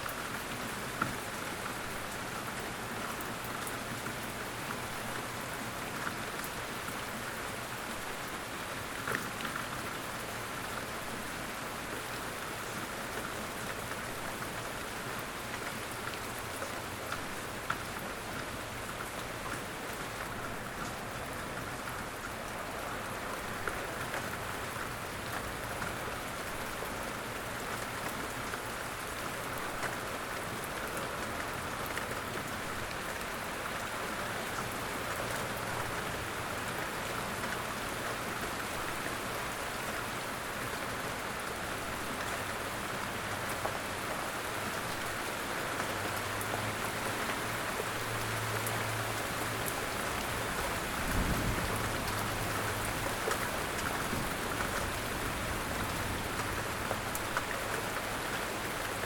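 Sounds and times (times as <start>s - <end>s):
light rain patter: 0.0s - 59.0s.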